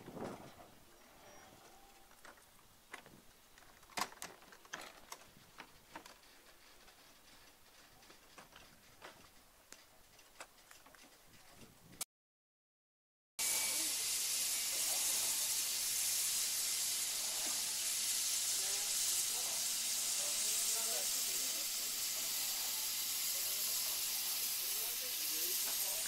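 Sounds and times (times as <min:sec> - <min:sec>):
railway coaches clicking on rails: 0:01.3 - 0:12.0, 0:13.6 - 0:26.0.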